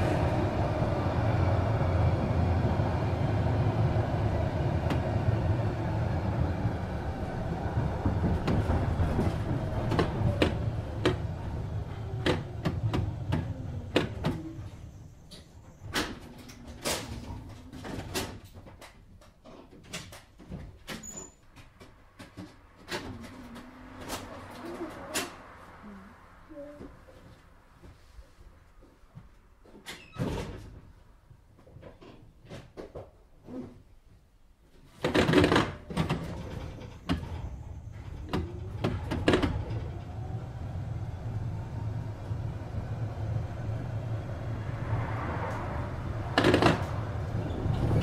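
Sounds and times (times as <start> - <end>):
tram knocks and clatters: 0.0 - 25.6, 35.0 - 48.0.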